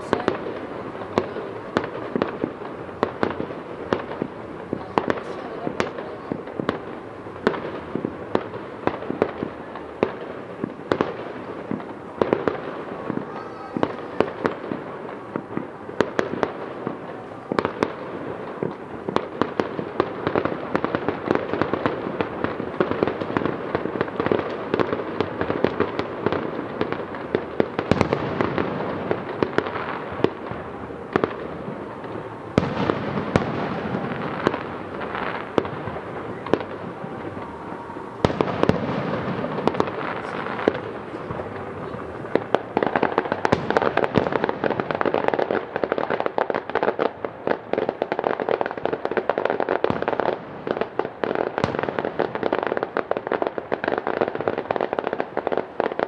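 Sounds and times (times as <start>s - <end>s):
distant fireworks bursting and crackling: 0.0s - 56.0s
sharp fireworks bangs: 0.0s - 56.0s.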